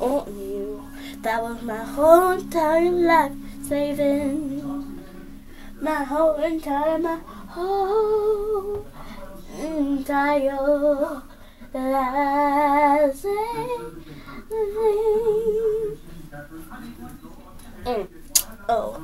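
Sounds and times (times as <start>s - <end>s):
girl singing unaccompanied: 0.0s - 16.0s.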